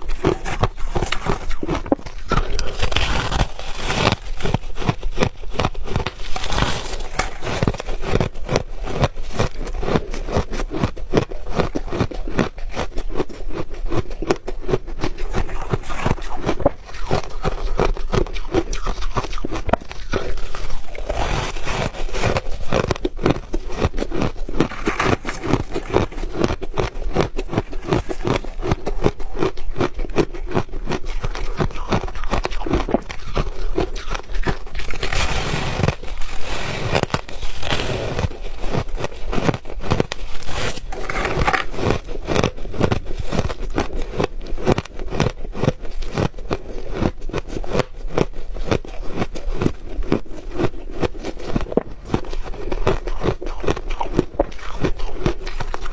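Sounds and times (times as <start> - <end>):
person chewing crunchy ice: 0.0 - 55.9.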